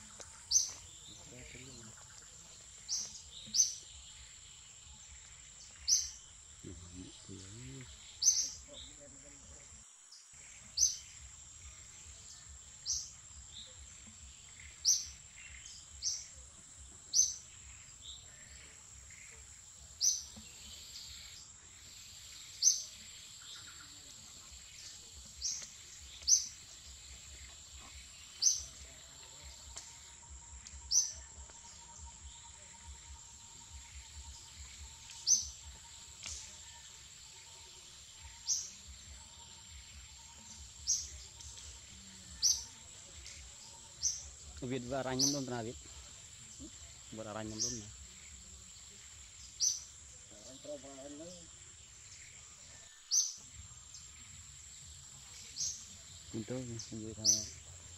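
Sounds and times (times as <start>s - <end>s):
bird chirping: 0.0s - 57.9s.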